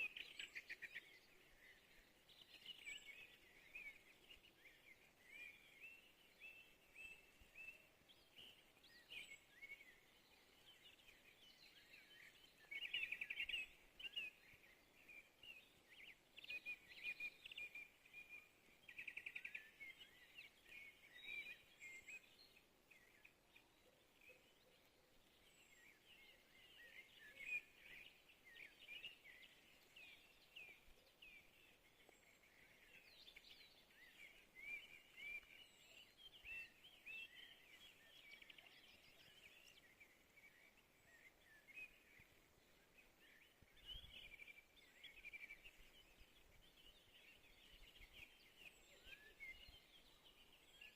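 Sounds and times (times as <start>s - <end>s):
faint songbirds chirping: 0.0s - 50.9s.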